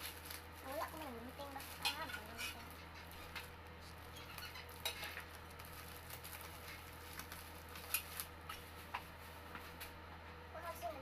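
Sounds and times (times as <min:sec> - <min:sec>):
plastic packaging crinkling: 0:00.0 - 0:09.1
steady low hum: 0:00.0 - 0:11.0.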